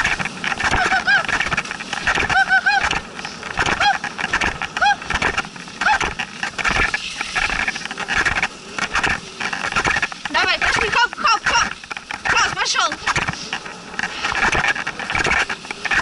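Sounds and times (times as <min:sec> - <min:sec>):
short high squeaks: 0:00.0 - 0:16.0
sled clattering and knocking: 0:00.0 - 0:16.0
sled runners scraping over snow: 0:00.0 - 0:16.0.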